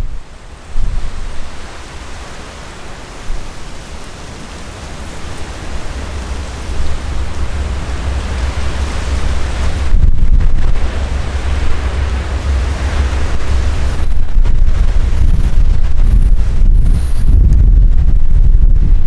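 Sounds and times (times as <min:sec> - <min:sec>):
passenger train approaching: 0:03.7 - 0:19.0.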